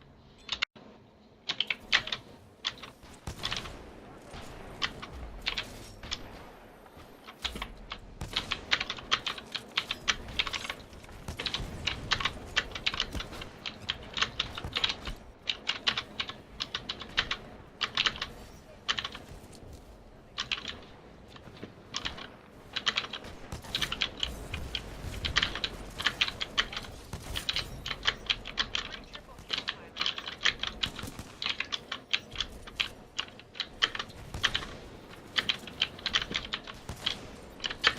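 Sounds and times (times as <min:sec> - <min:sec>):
clicky mechanical keyboard typing: 0:07.3 - 0:37.9.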